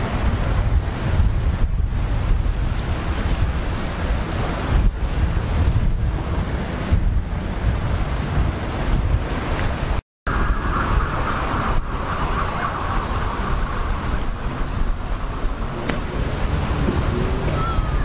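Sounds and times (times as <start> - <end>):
rough surf: 0.0 - 18.0
watercraft engine whine: 0.0 - 18.0
wind buffeting microphone: 0.0 - 18.0.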